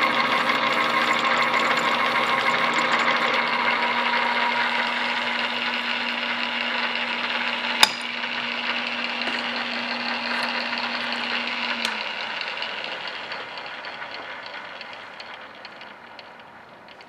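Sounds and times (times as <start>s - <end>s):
drill press running: 0.0s - 17.0s.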